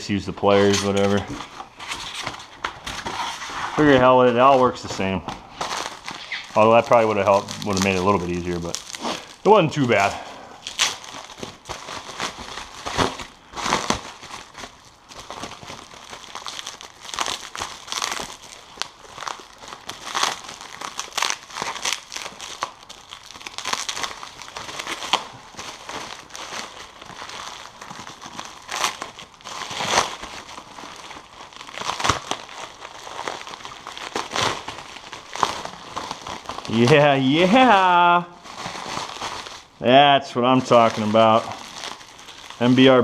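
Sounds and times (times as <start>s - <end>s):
packaging crinkling and rustling: 0.0s - 39.8s, 40.4s - 43.0s.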